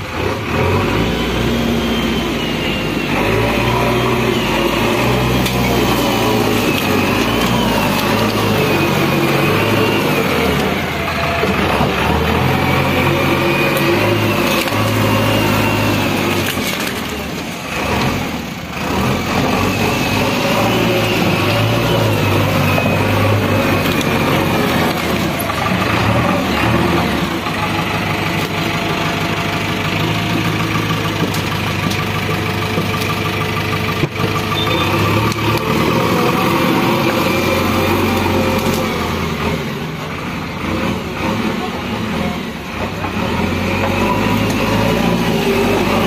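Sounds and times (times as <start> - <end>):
diesel engine running: 0.0 - 46.0
loader bucket working earth: 0.0 - 46.0.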